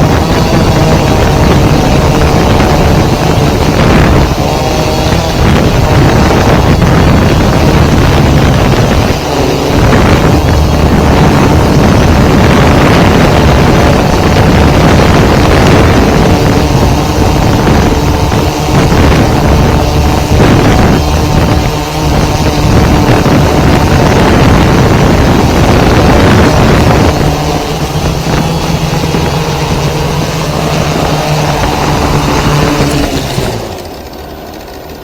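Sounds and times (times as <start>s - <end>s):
wind buffeting microphone: 0.0s - 34.2s
drone motors humming: 0.0s - 35.0s.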